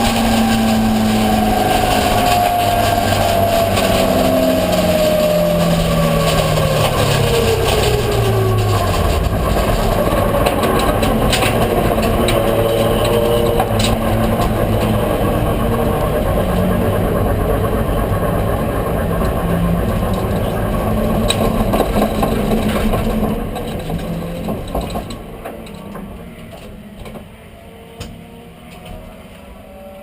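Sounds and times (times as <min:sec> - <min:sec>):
car engine running: 0:00.0 - 0:25.3.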